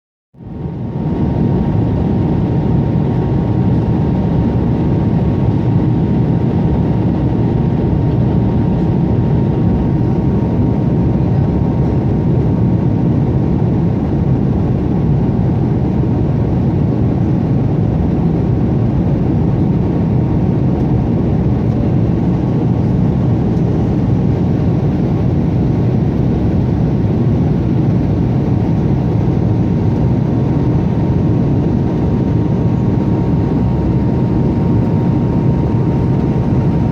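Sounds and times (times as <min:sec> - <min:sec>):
airliner engine roar in cabin: 0:00.4 - 0:36.9.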